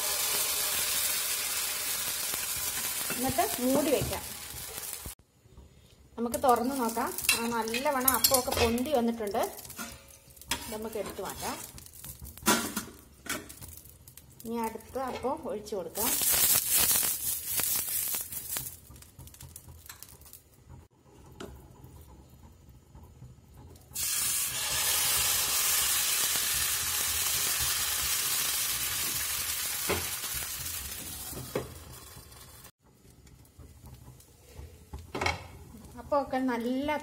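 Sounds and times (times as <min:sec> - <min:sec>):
batter sizzling on a hot pan: 0:00.0 - 0:37.0.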